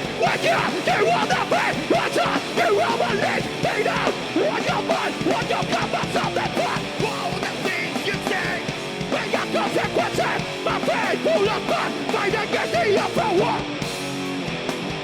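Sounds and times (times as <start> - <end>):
electric guitar: 0.0 - 15.0
live rock band: 0.0 - 15.0.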